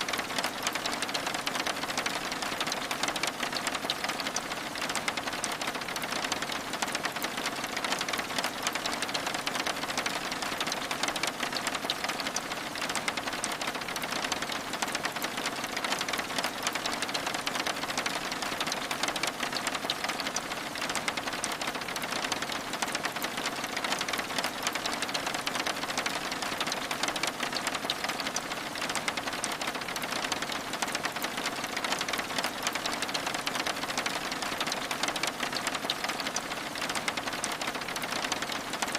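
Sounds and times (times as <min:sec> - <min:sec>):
rain pattering on window glass: 0:00.0 - 0:38.9.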